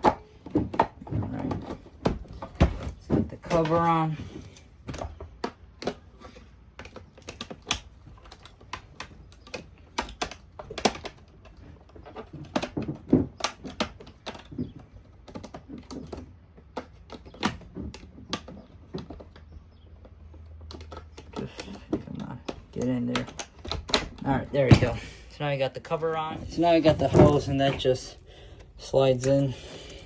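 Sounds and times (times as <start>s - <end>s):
plastic parts clicking and knocking: 0.0s - 25.2s, 25.8s - 30.0s.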